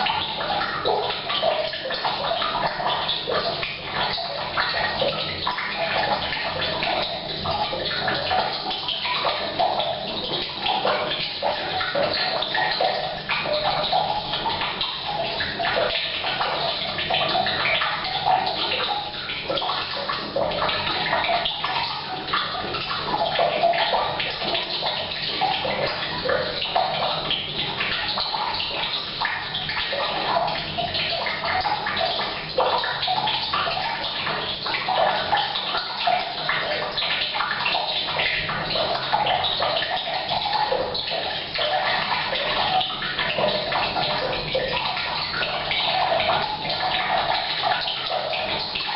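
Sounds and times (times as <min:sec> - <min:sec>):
rain falling on a roof: 0:00.0 - 0:48.9
water pouring into a tank: 0:00.0 - 0:48.9.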